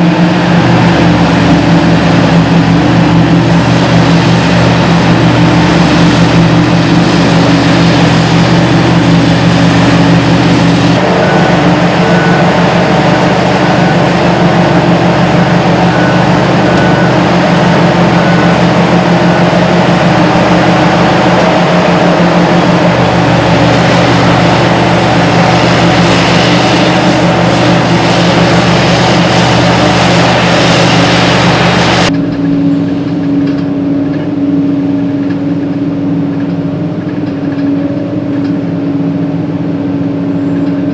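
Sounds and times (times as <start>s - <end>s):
excavator mechanical drone: 0.0s - 40.9s.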